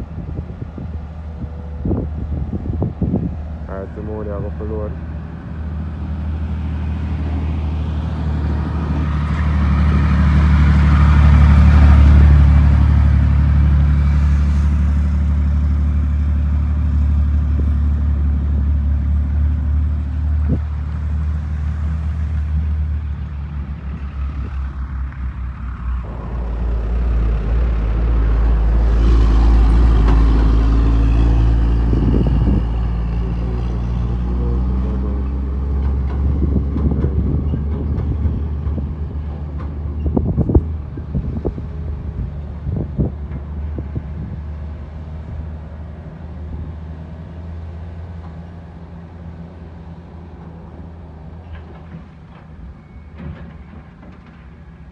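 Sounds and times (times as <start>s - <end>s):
dump truck diesel engine: 0.0s - 54.9s.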